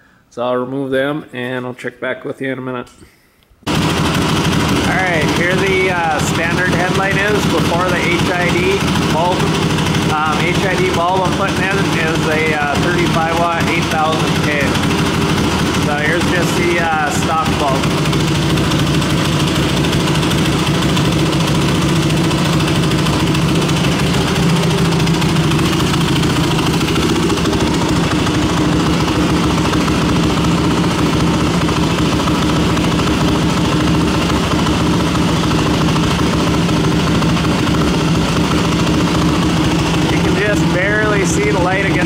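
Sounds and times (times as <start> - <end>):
motorcycle engine idling: 3.7 - 42.0.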